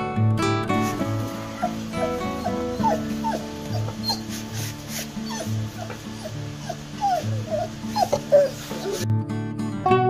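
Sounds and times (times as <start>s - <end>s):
dog whining: 0.9s - 9.0s.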